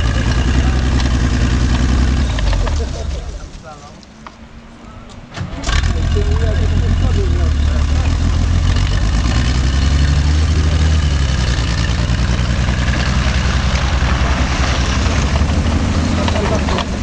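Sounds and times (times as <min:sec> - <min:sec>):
tracked vehicle engine rumbling: 0:00.0 - 0:17.0.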